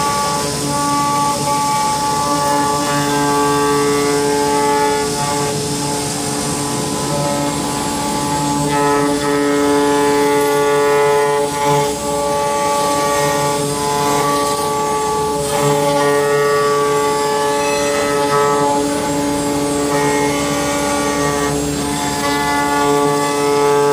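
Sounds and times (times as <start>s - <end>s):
router spindle whining: 0.0s - 23.9s.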